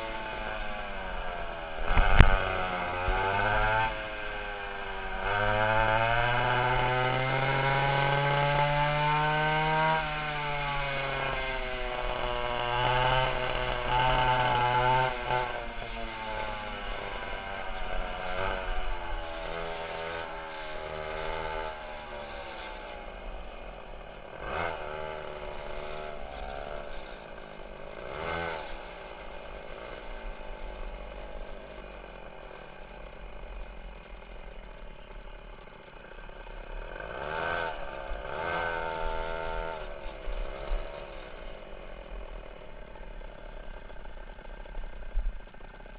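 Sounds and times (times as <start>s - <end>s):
go-kart engines revving: 0.0s - 45.9s.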